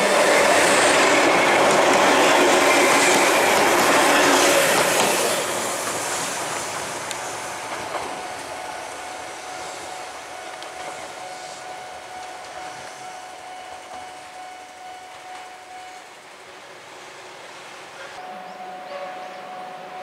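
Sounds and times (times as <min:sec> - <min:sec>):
electric train rumble: 0:00.0 - 0:20.0.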